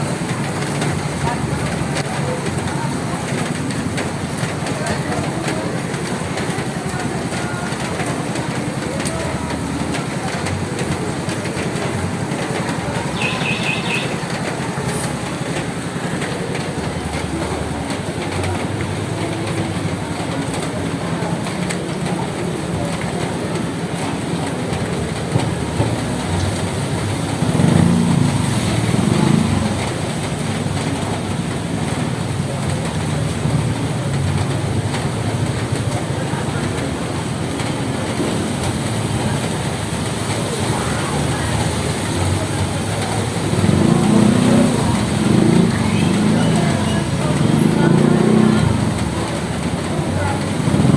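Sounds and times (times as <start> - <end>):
rain on a roof: 0.0 - 50.9.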